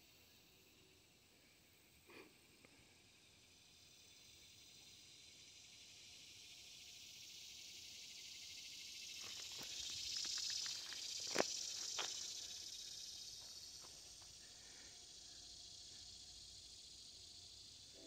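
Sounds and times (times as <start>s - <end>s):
cicada buzzing: 3.4s - 18.0s.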